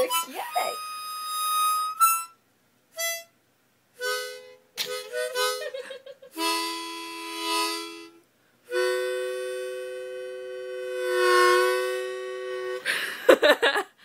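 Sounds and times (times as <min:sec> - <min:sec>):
harmonica chords: 0:00.0 - 0:03.4, 0:04.0 - 0:13.2.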